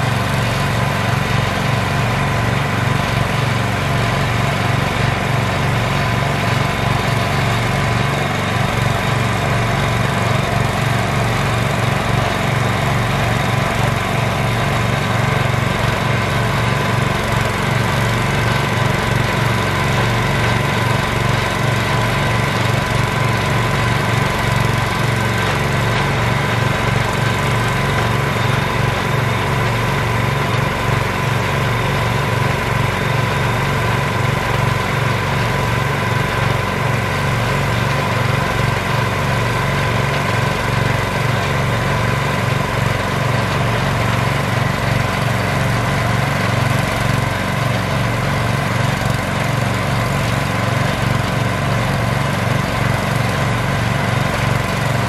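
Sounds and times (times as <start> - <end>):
drilling rig engine droning: 0.0 - 55.0.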